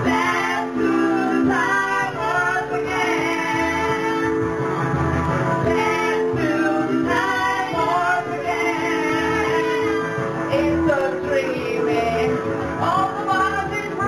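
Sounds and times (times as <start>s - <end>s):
woman singing into a microphone: 0.0s - 4.4s, 5.7s - 14.0s
karaoke backing track: 0.0s - 14.0s.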